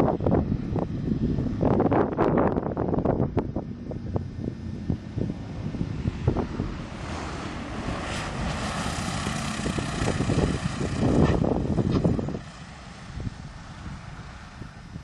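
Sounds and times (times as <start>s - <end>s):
gusty wind on microphone: 0.0s - 15.0s
propeller aircraft engine: 0.0s - 15.0s.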